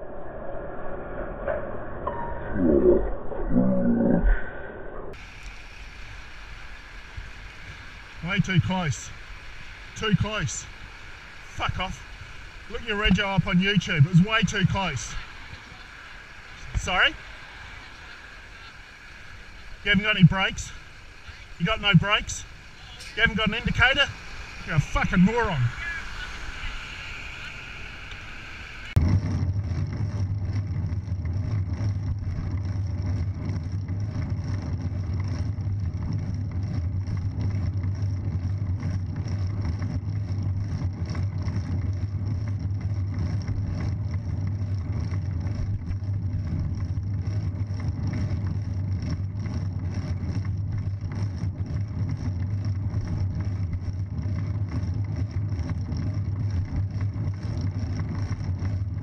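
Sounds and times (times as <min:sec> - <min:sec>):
wind and road noise rumble: 0:00.0 - 0:59.0
traffic: 0:05.1 - 0:59.0.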